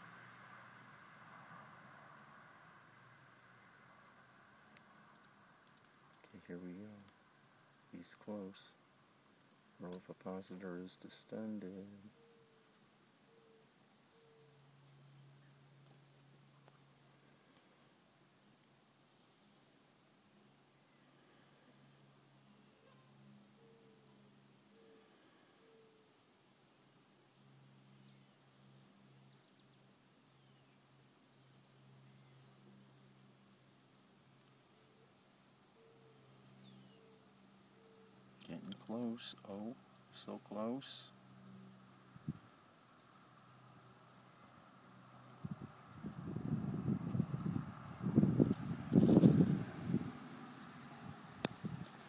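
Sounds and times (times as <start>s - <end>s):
high-pitched insect chirping: 0.0s - 52.0s.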